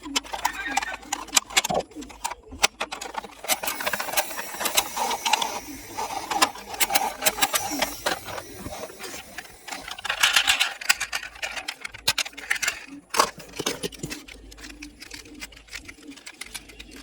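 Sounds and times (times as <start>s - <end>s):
plastic toys clattering: 0.0s - 17.0s.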